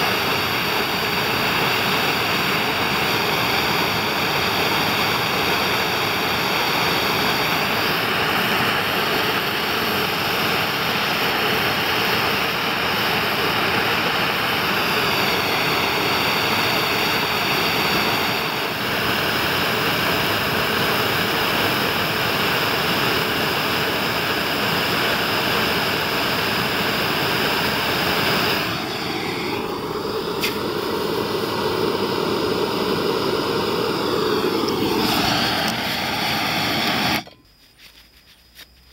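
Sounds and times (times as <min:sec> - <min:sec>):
gas blowtorch burning: 0:00.0 - 0:37.4
steady hum: 0:00.0 - 0:38.9.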